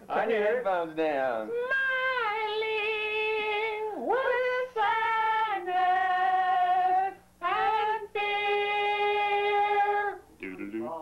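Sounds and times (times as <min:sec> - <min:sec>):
person singing unaccompanied: 0:01.5 - 0:11.0.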